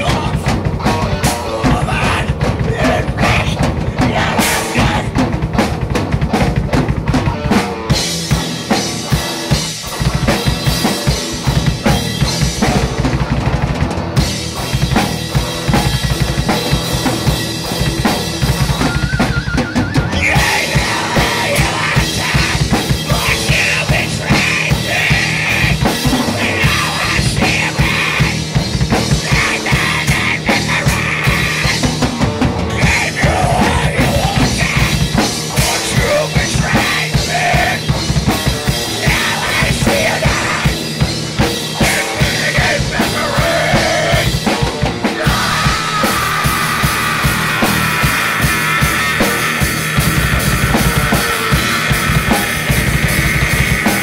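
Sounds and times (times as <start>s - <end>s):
drum kit: 0.0s - 54.0s
metal rock song: 0.0s - 54.0s.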